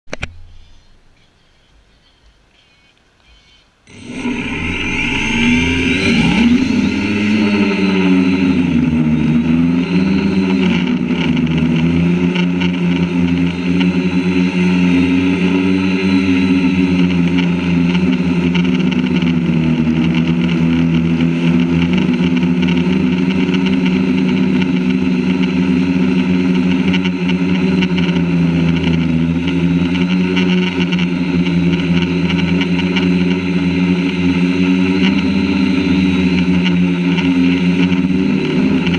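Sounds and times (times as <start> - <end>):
drone motors whining: 3.9 - 38.9.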